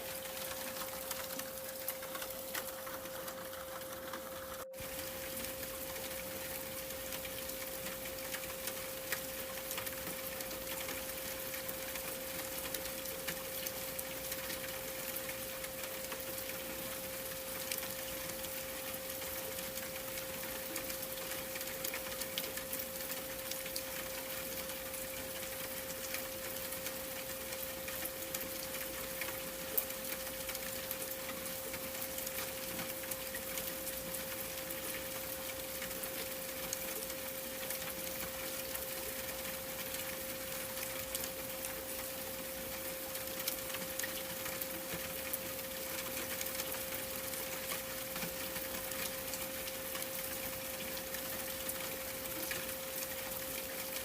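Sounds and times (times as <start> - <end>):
rain-like hiss: 0.0 - 54.0.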